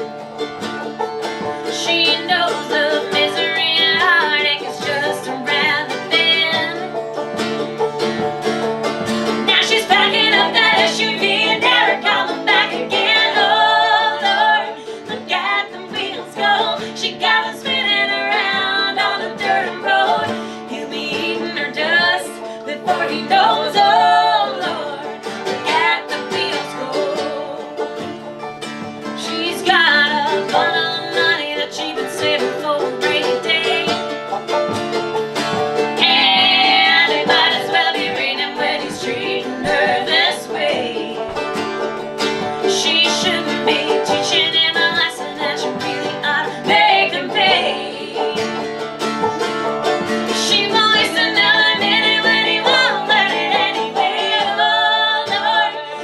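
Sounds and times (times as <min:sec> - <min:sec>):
plucked string instruments: 0:00.0 - 0:56.0
strummed acoustic guitar: 0:00.0 - 0:56.0
women singing in harmony: 0:01.6 - 0:07.4, 0:09.3 - 0:28.1, 0:29.1 - 0:34.2, 0:36.0 - 0:41.6, 0:42.4 - 0:48.8, 0:50.2 - 0:56.0.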